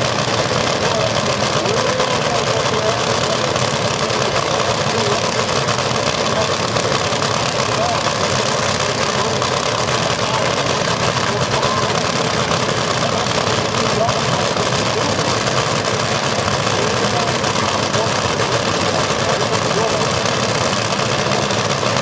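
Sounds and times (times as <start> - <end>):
crowd chatter: 0.0 - 22.0
engine noise: 0.0 - 22.0.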